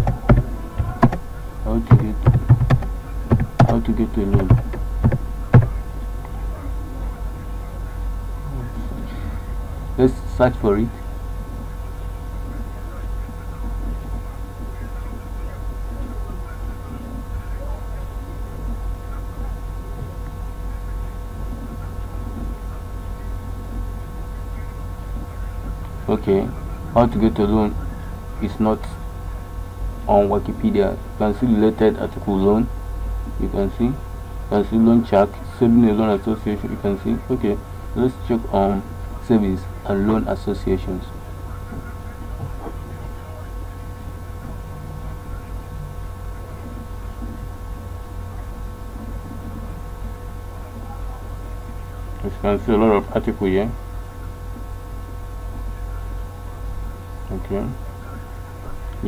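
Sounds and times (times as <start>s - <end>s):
faint constant tones: 0.0s - 59.0s
low background hum: 0.0s - 59.0s.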